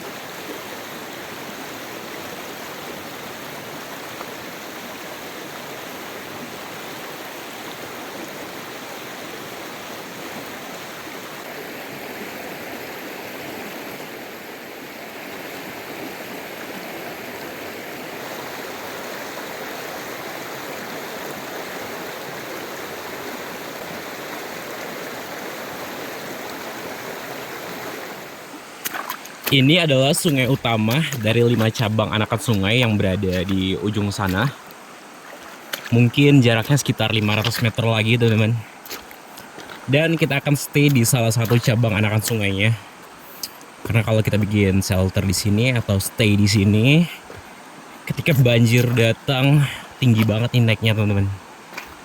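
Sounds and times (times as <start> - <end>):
water rushing over rocks: 0.0 - 52.0.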